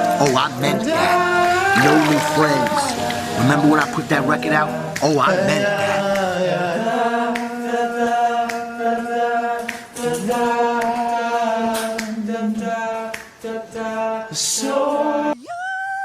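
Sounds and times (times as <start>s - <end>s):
voices singing long notes: 0.0s - 16.0s.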